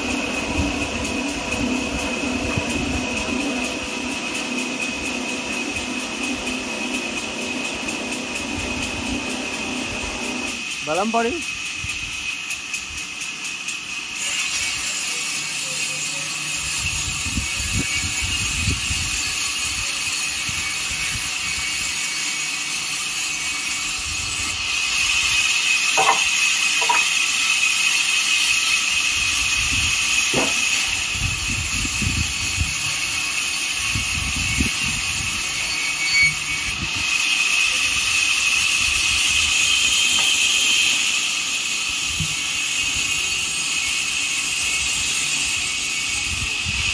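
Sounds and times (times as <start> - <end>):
machine hiss with high whine: 0.0 - 46.9.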